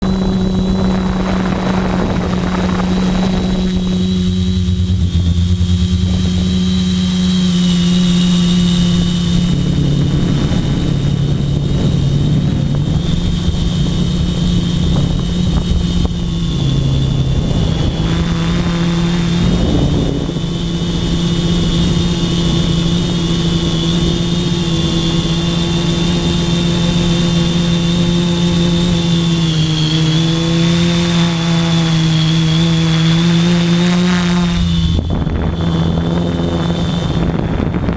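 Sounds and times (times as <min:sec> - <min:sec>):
drone motors buzzing: 0:00.0 - 0:37.9.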